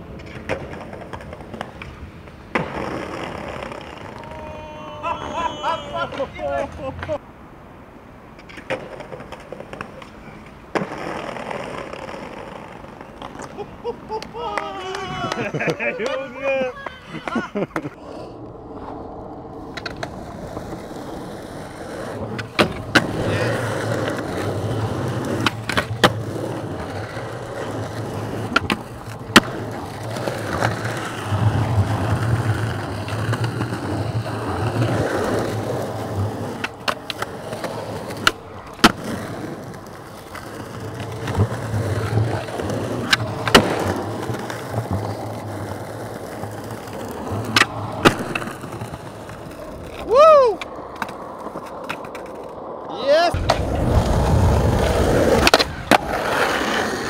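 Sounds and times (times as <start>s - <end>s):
skateboard popping and landing: 0.0s - 7.2s, 8.3s - 13.6s, 14.2s - 57.0s
skateboard wheels rolling on concrete: 0.0s - 57.0s.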